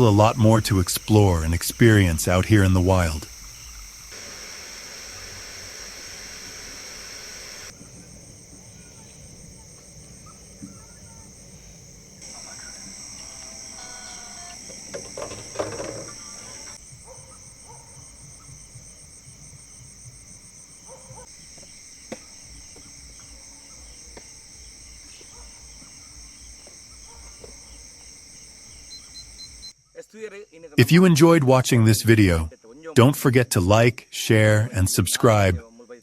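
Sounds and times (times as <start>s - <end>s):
insects trilling: 0.0s - 36.0s
rhythmic cricket chirping: 0.0s - 36.0s.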